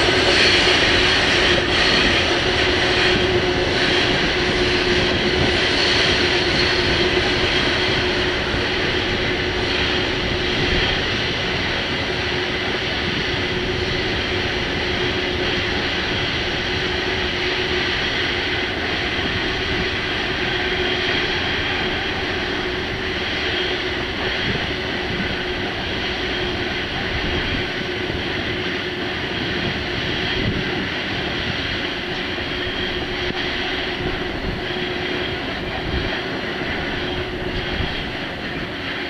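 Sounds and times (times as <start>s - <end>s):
locomotive hum: 0.0s - 39.0s
rumble of train wagons: 0.0s - 39.0s.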